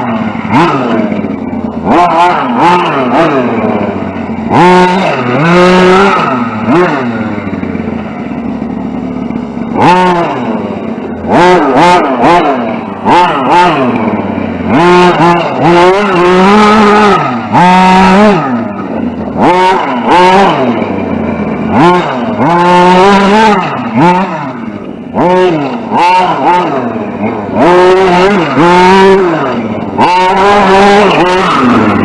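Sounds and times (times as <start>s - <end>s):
tyres on dirt: 0.0s - 32.0s.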